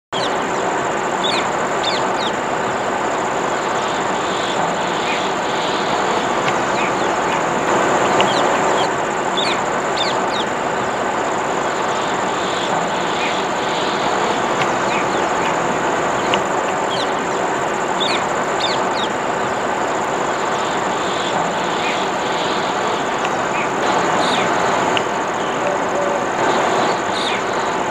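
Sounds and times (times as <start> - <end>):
birds chirping: 0.1 - 27.9
dense background noise: 0.1 - 27.9
high-pitched whine: 0.1 - 27.9.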